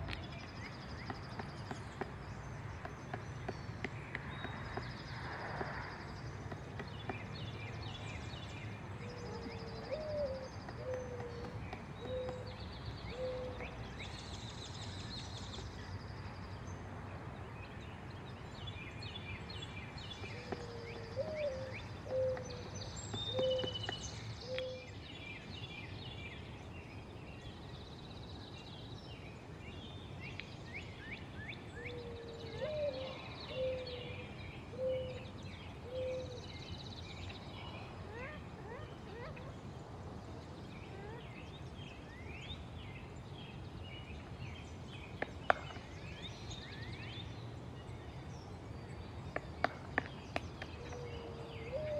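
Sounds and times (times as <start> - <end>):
small birds twittering and trilling: 0.0 - 51.9.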